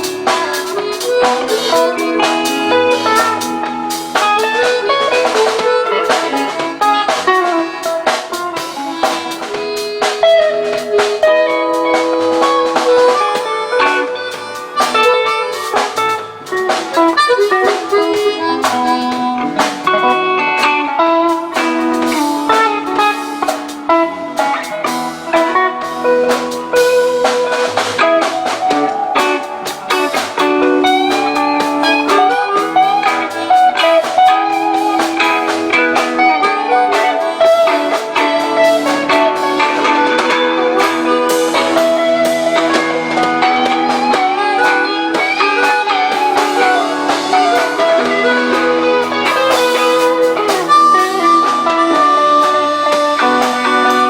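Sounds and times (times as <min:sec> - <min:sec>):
drum kit: 0:00.0 - 0:54.0
guitars playing: 0:00.0 - 0:54.0
lead melody: 0:00.0 - 0:54.0.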